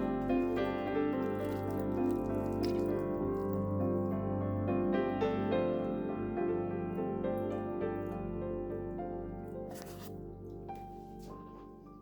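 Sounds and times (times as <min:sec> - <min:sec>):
sustained background music: 0:00.0 - 0:12.0.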